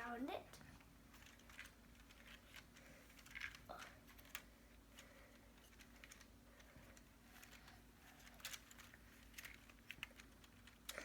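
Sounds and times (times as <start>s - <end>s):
plastic model clicks and rattles: 1.1s - 11.0s.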